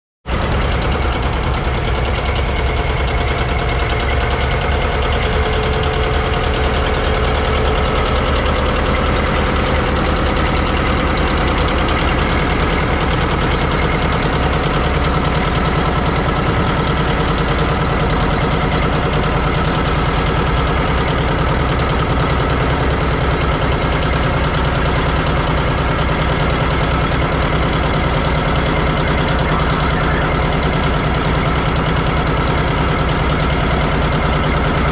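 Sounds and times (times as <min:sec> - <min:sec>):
diesel tractor engine running: 0:00.2 - 0:34.9.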